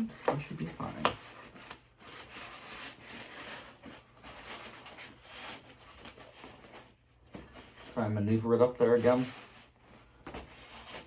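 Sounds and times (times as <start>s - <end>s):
cloth rubbing against plastic: 0.0s - 11.0s.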